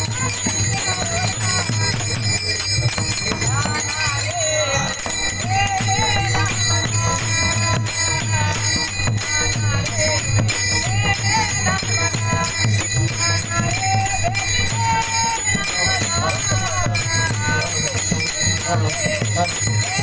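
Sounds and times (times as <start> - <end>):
hand cymbals clashing: 0.0 - 20.0
person singing devotional melody: 0.0 - 20.0.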